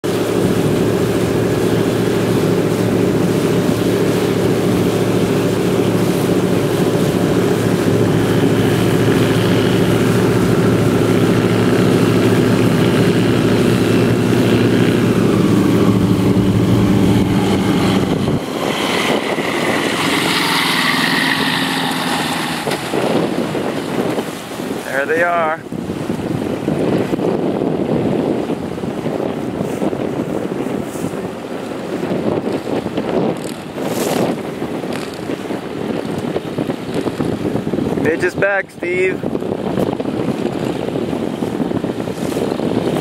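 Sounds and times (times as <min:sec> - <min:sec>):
plane engine and propeller drone: 0:00.0 - 0:43.0.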